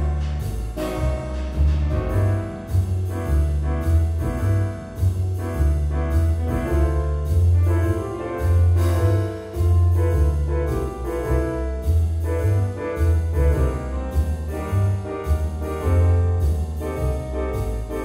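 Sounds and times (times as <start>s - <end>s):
instrumental music with bass line: 0.0s - 18.0s.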